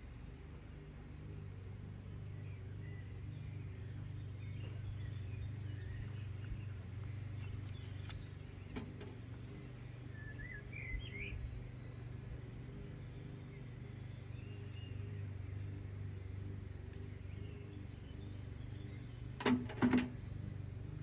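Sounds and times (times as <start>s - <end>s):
low engine-like hum: 0.0s - 21.0s
small birds chirping: 0.4s - 19.4s.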